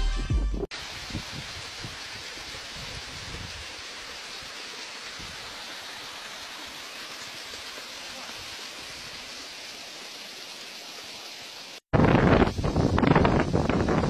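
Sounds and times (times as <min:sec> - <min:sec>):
waterfall rushing: 0:00.7 - 0:14.0.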